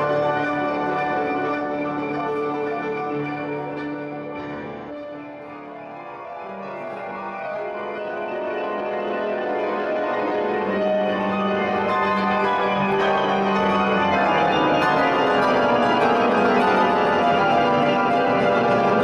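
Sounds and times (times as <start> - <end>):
grand pianos playing together: 0.0 - 19.0.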